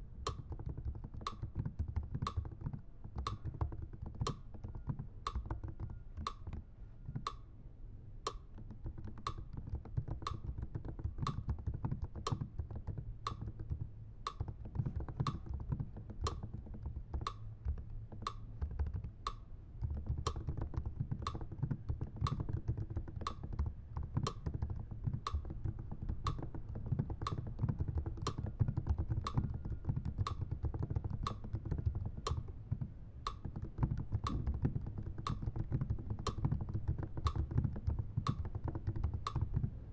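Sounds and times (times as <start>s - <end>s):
typing on a computer keyboard: 0.2s - 6.6s, 8.3s - 39.8s.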